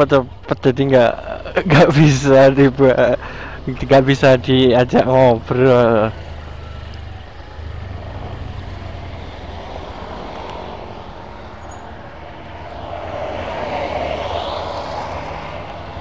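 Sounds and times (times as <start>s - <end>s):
minivan passing: 0.0s - 16.0s.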